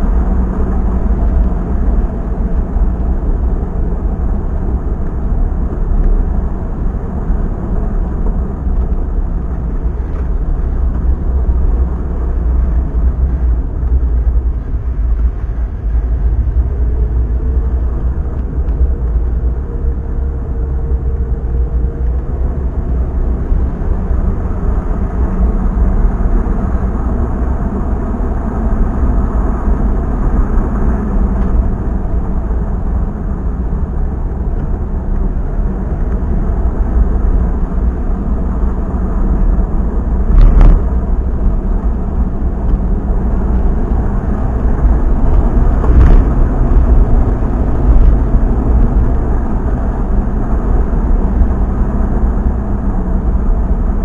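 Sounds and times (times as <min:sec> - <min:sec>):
vehicle engine and road noise: 0:00.0 - 0:54.0
vehicle going over bumps: 0:00.0 - 0:54.0.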